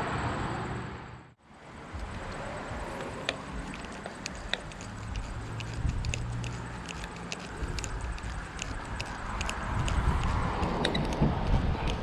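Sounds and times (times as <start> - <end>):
steady low hum: 1.2 - 12.0
light clicks and taps: 2.0 - 12.0.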